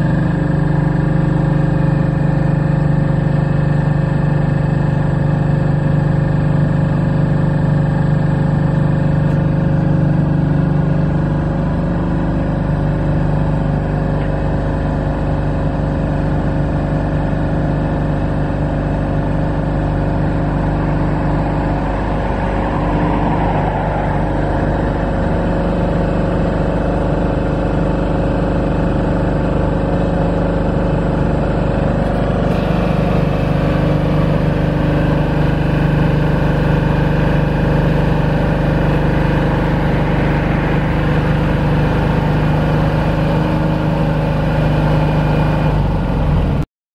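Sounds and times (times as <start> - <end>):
diesel generator running: 0.0 - 46.7.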